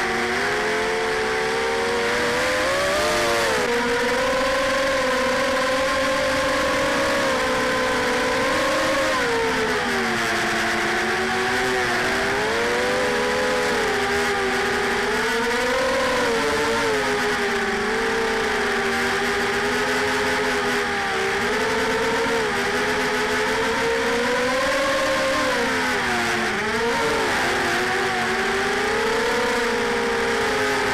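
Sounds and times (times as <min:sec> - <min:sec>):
quadcopter motors buzzing: 0:00.0 - 0:30.9.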